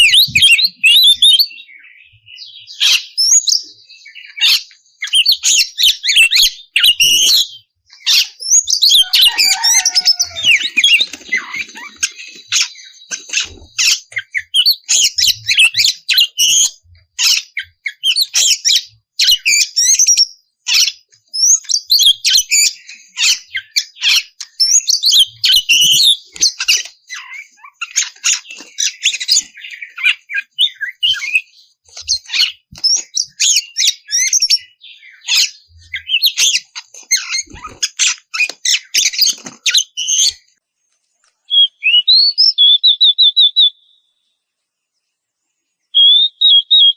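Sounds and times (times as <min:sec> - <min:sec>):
bird singing chirps and whistles: 0:00.0 - 0:40.5, 0:41.5 - 0:44.2, 0:45.9 - 0:46.9.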